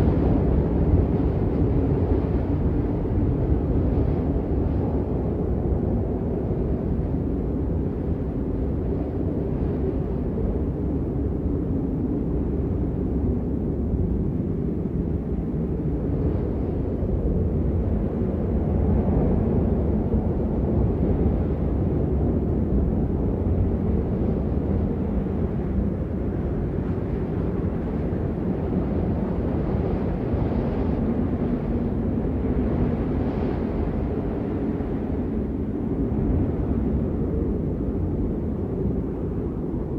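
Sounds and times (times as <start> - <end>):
strong wind blowing: 0.0 - 39.9.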